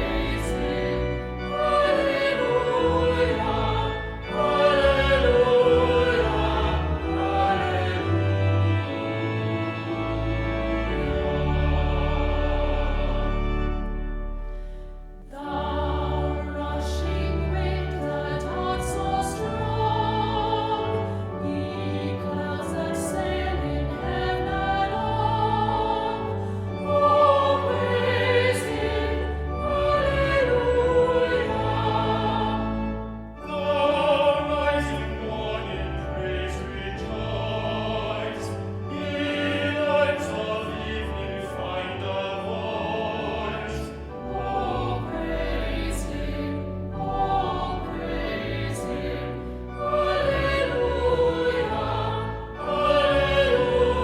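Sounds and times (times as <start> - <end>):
choir singing with vibrato: 0.0 - 54.0
orchestral accompaniment: 0.0 - 54.0.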